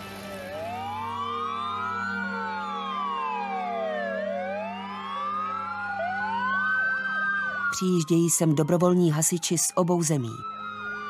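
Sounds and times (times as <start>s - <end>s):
fire engine sirens wailing: 0.0s - 11.0s.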